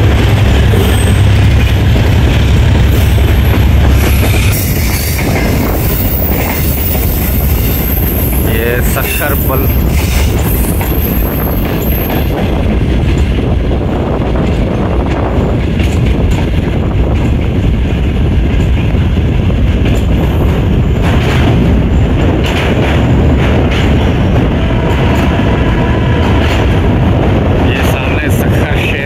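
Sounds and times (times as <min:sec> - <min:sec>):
train wheels clacking: 0:00.0 - 0:29.0
train wheels rumbling on rail: 0:00.0 - 0:29.0.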